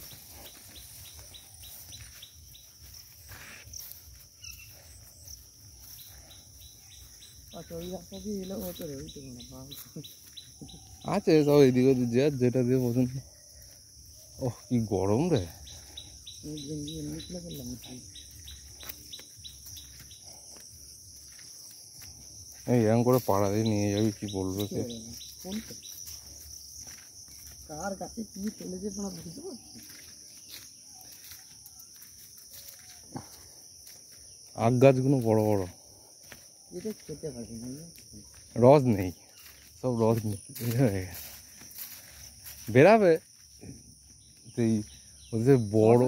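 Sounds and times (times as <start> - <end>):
bird chirping: 0.0 - 46.0
crickets trilling: 0.0 - 46.0
insects droning: 0.0 - 46.0.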